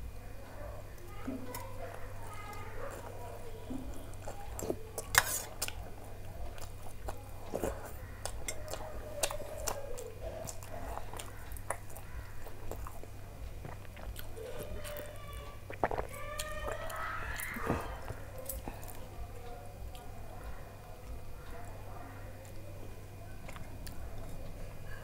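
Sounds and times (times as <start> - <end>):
person chewing: 1.0 - 21.7, 22.4 - 25.0.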